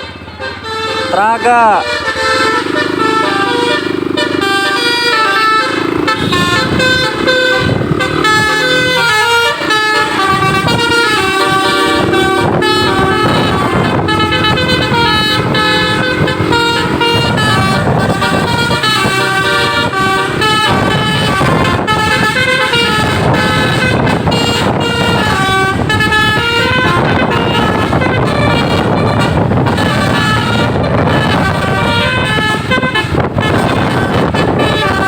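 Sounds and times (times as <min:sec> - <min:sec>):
musical bus horn tune: 0:00.0 - 0:35.0
steady low rumble: 0:01.8 - 0:35.0.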